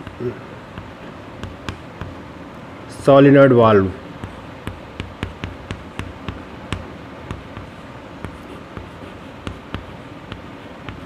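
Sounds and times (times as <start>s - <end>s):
chalk tapping on a blackboard: 0.0s - 2.2s, 4.2s - 11.0s.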